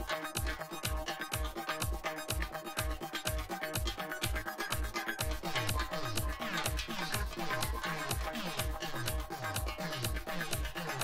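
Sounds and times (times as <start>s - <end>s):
electronic dance music: 0.0s - 11.0s
kick drum beat: 0.0s - 11.0s.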